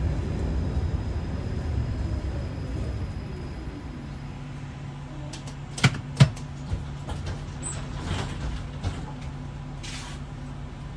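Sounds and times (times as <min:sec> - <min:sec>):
tram equipment low hum: 0:00.0 - 0:10.9.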